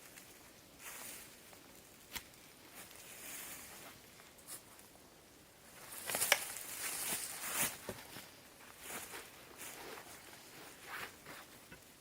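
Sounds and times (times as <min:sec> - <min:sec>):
rustling and crunching: 0:00.0 - 0:05.0, 0:05.6 - 0:12.0.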